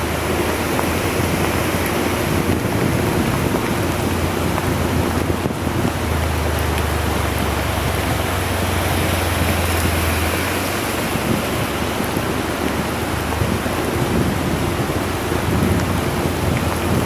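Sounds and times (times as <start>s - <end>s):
very heavy rain pouring: 0.0s - 17.0s.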